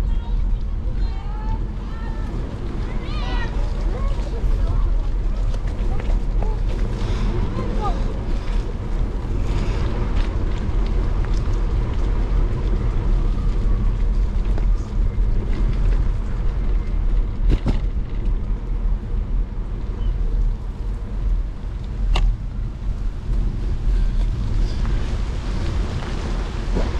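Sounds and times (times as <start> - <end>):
tyres on wet pavement: 0.0 - 26.9
wind rumble on microphone: 0.0 - 26.9.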